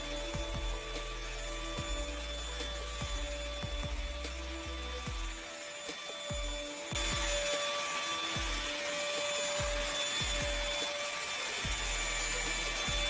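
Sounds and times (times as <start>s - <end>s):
handheld vacuum cleaner whining: 0.0s - 13.0s.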